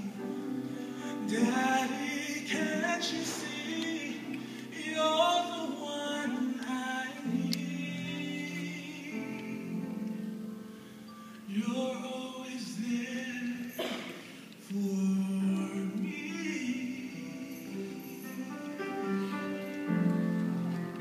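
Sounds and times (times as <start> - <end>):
man singing gospel song: 0.0 - 10.1, 11.4 - 19.3.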